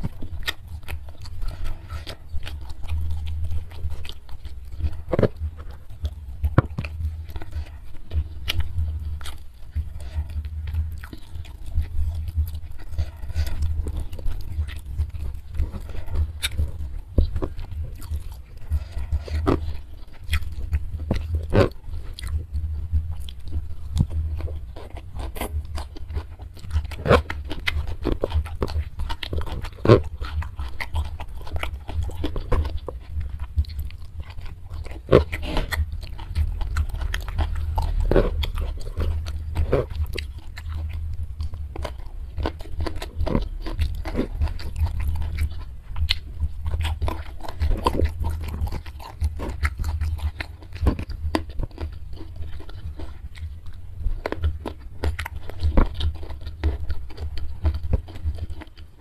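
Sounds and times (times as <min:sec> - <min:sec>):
wet mouth clicks: 0:00.0 - 0:58.9
chewing and crunching food: 0:00.0 - 0:59.0
crunching raw beans: 0:00.0 - 0:59.0.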